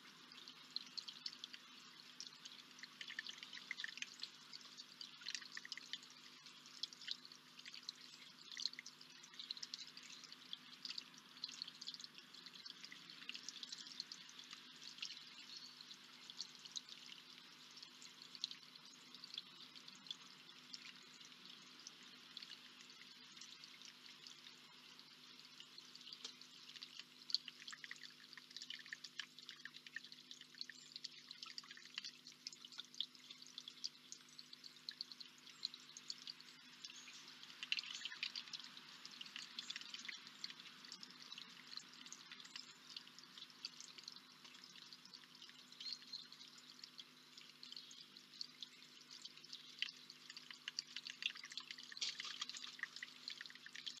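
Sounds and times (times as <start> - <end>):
water trickling into a basin: 0.0 - 54.0.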